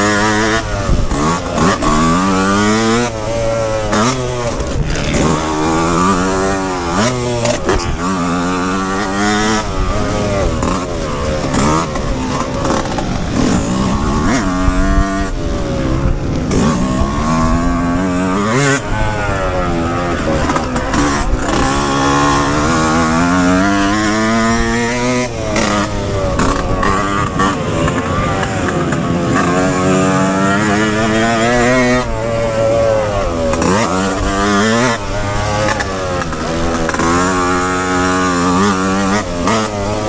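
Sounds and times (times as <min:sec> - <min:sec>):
motocross engine revving: 0:00.0 - 0:40.0.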